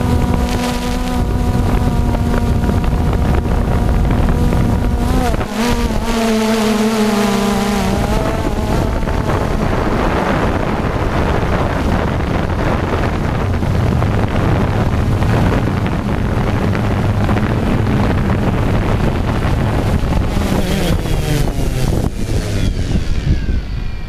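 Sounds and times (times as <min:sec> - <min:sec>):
drone motors winding down: 0:00.0 - 0:24.0
drone rotors humming: 0:00.0 - 0:24.0
wind rush: 0:00.0 - 0:24.0.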